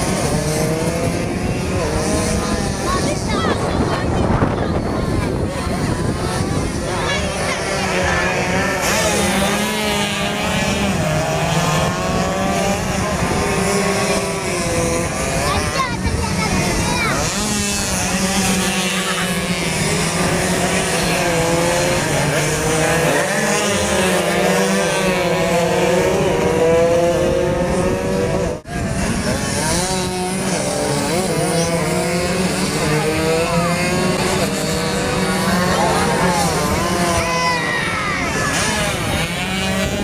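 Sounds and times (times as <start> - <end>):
motorcycle engines screaming: 0.0 - 40.0.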